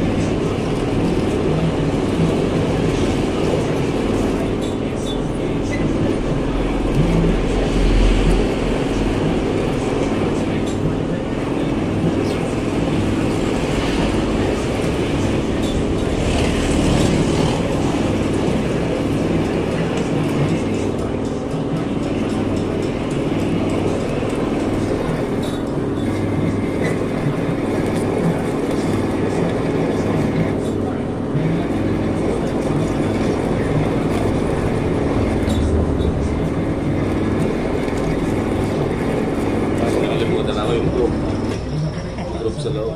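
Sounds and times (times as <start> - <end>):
metal lathe running: 0.0 - 42.9.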